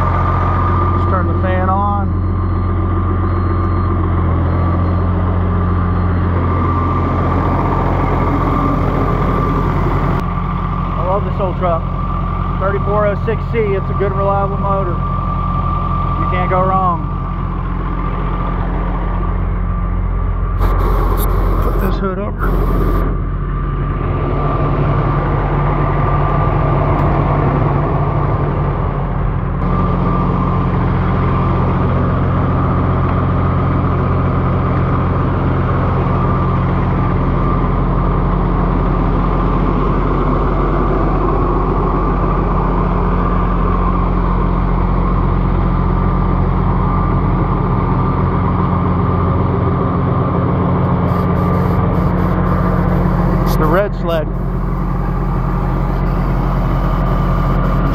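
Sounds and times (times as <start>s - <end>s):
steady engine whine: 0.0s - 57.9s
truck engine idling: 0.0s - 57.9s.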